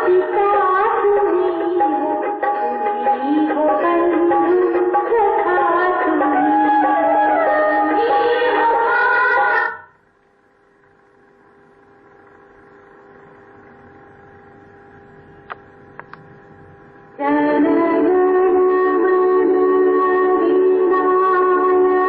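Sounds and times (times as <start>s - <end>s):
steady amplifier hum: 0.0s - 22.0s.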